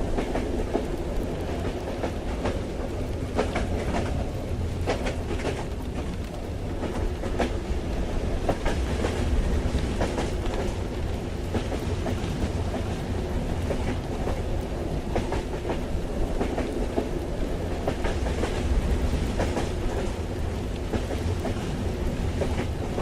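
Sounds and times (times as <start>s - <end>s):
train running gear rumble: 0.0s - 23.0s.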